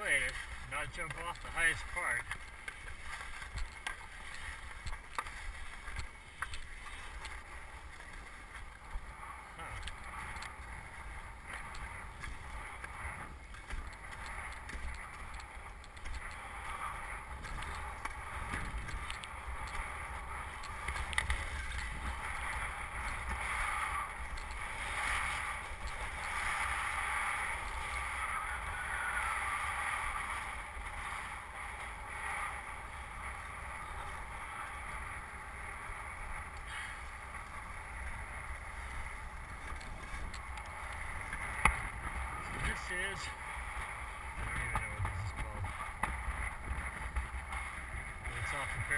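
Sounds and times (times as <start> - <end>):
skis sliding over snow: 0.0 - 48.9.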